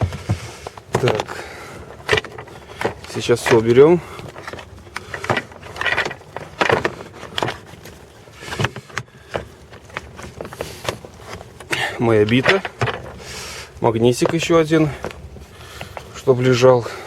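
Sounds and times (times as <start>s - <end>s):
handling rustles: 0.0s - 17.0s.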